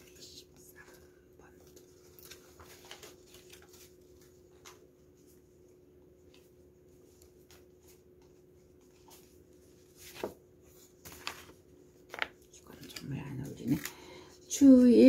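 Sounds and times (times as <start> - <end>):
paper card rustling: 0.8 - 5.6, 6.2 - 14.0.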